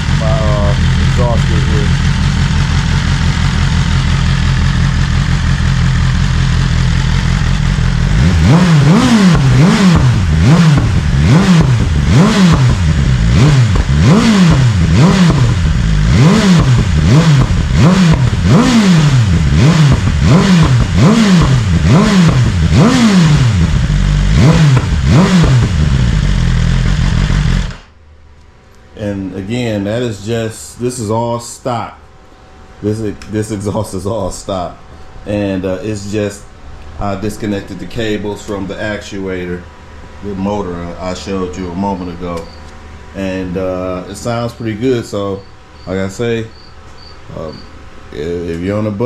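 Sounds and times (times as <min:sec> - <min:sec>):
motorcycle engine revving: 0:00.0 - 0:27.9, 0:35.5 - 0:49.0.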